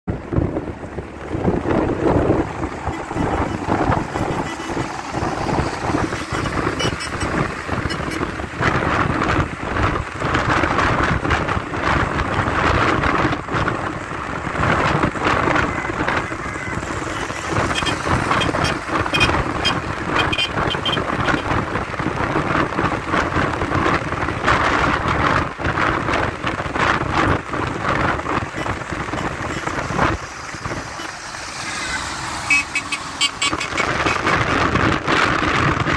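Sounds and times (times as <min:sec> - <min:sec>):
engine and tyre noise: 0:00.0 - 0:35.9
wind buffeting microphone: 0:00.1 - 0:31.5, 0:33.0 - 0:35.9.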